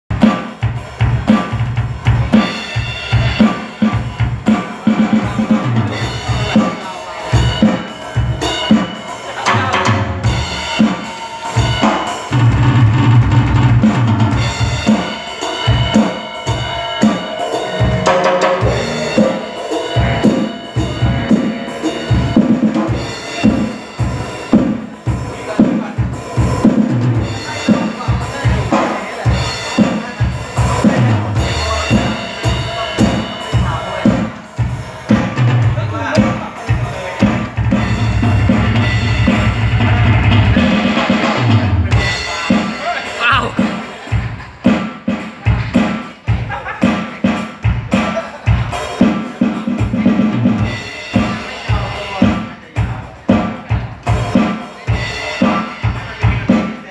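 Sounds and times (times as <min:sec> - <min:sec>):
drum kit playing a steady beat: 0:00.0 - 0:56.9.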